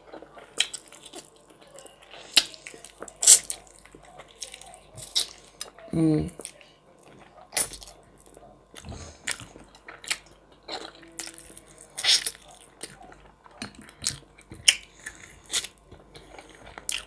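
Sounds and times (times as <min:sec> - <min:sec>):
person chewing with mouth smacks: 0:00.0 - 0:05.8, 0:06.4 - 0:17.0.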